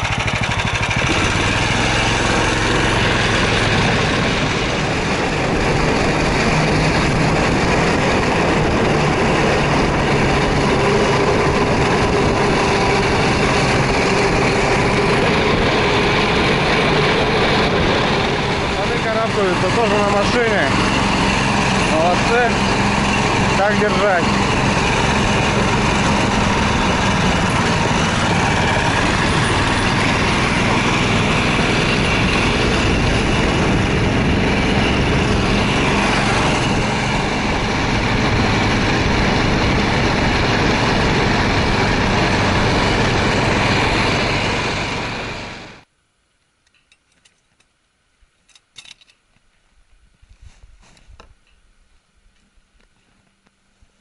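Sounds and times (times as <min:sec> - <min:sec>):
sled scraping over snow: 0:00.0 - 0:45.9
snow vehicle engine running: 0:00.0 - 0:45.9.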